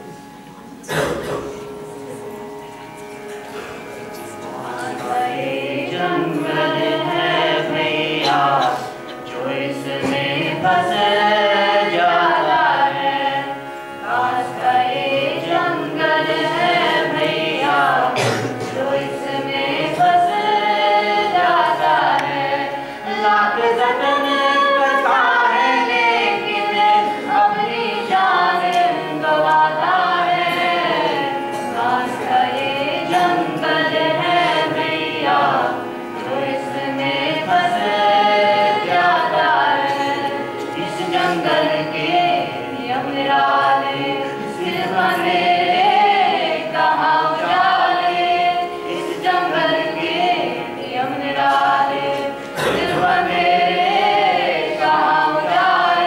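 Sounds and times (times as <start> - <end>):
steady held drone: 0.0 - 56.0.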